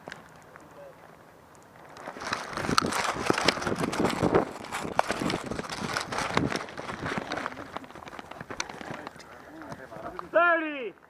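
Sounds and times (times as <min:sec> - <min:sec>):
crunching and rustling through brush: 0:00.0 - 0:10.4.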